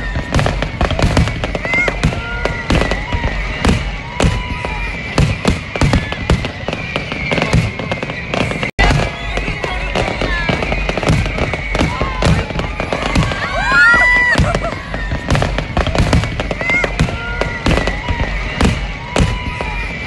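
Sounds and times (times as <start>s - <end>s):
fireworks bangs and crackles: 0.0s - 20.0s
fireworks whistling: 0.0s - 20.0s.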